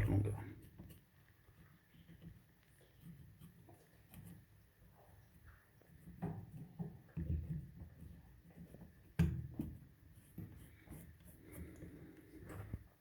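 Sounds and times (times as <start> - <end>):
handling rubbing and light knocks: 0.0 - 13.0.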